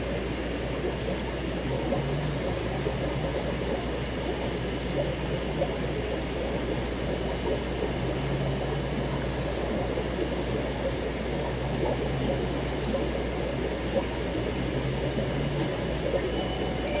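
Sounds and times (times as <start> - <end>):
aquarium water bubbling: 0.0 - 17.0.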